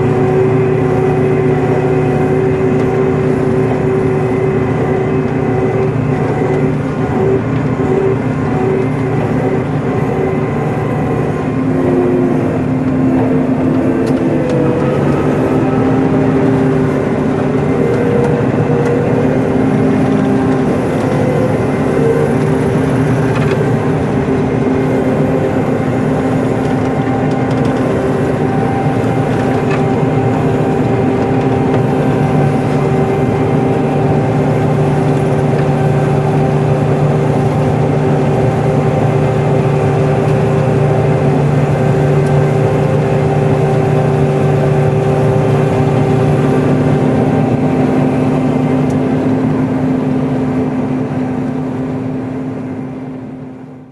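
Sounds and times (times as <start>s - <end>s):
combine harvester drone: 0.0s - 53.9s.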